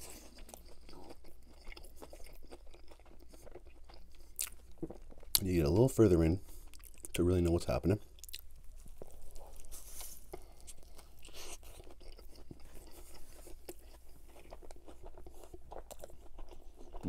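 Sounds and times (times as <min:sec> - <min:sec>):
crunchy chewing: 0:00.0 - 0:05.6, 0:08.0 - 0:17.0.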